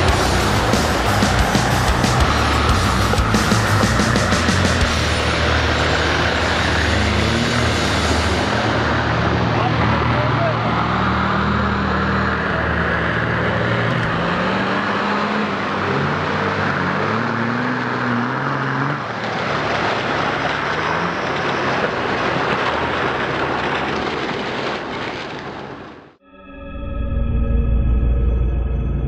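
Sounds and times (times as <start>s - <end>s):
water splashing and spraying: 0.0s - 12.4s, 13.0s - 26.1s
truck engine revving: 0.0s - 26.2s.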